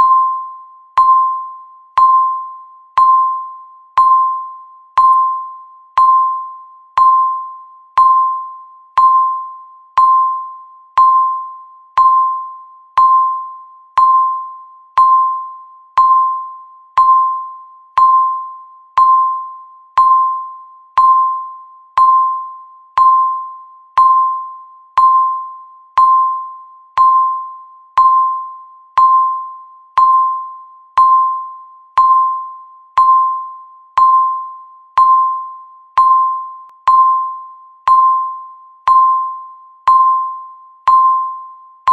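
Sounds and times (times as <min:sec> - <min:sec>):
timer ticking dings: 0:00.0 - 0:41.9.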